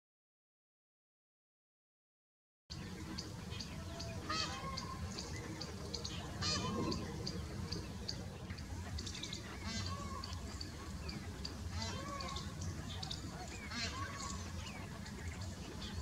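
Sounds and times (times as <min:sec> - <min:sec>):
birds chirping: 0:02.7 - 0:16.0
steady low rumble: 0:02.7 - 0:16.0.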